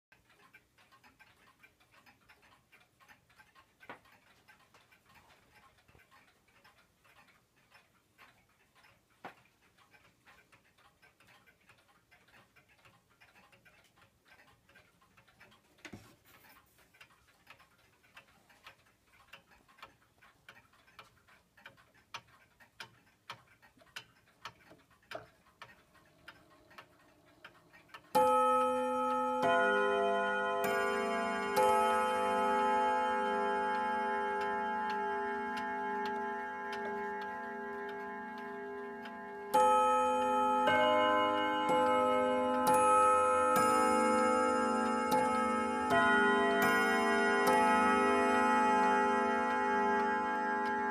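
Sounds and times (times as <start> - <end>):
wall clock ticking: 0.1 - 50.9.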